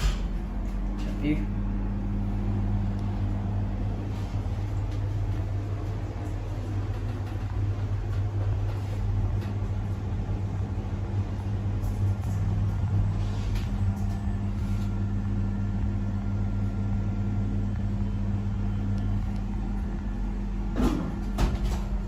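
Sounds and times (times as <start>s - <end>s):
elevator machinery humming: 0.0s - 22.0s.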